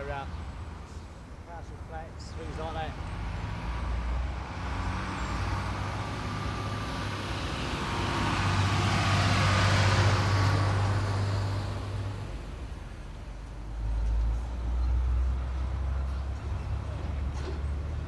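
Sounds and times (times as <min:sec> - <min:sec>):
vehicle passing close: 0:02.4 - 0:18.0.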